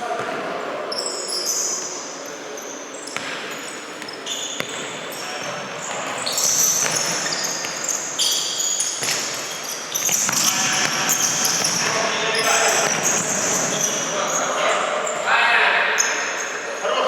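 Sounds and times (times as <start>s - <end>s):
shoes squeaking on floor: 0.9s - 16.8s.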